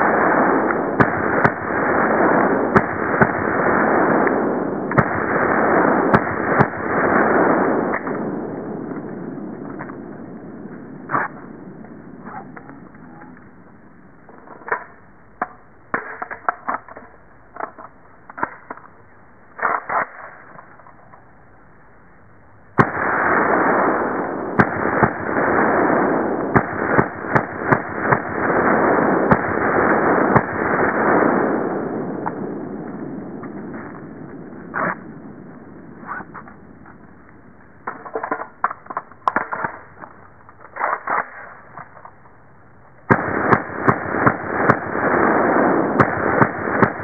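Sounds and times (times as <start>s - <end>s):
loud rush of steady noise: 0.0s - 47.0s.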